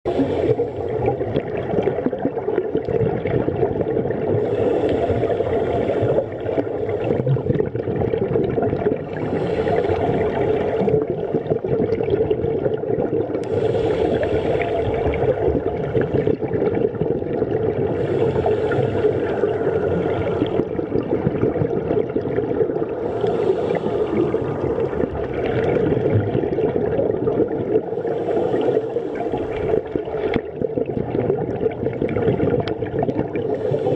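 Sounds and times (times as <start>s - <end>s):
underwater scuba breathing: 0.1s - 1.8s, 4.2s - 31.3s, 31.9s - 33.9s.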